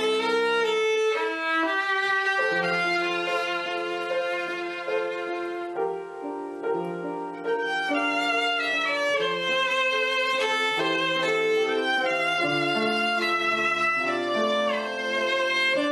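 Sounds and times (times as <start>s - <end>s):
violin music: 0.0s - 15.9s.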